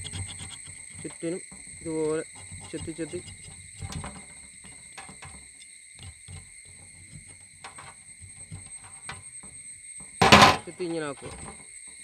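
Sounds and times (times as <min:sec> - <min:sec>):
cleaver scraping and tapping metal: 0:00.0 - 0:12.0.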